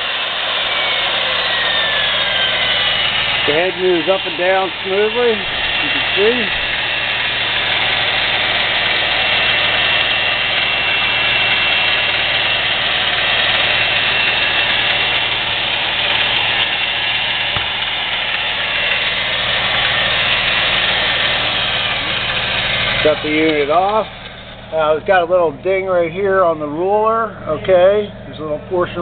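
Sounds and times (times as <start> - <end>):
drill press motor whirring: 0.0 - 25.0.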